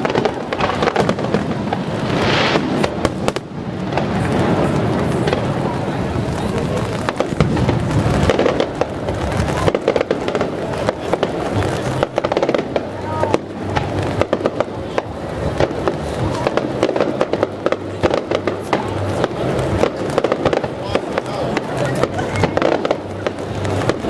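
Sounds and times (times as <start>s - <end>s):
fireworks shells bursting: 0.0s - 5.6s, 6.3s - 24.0s
rapid crackling pops: 0.0s - 24.0s.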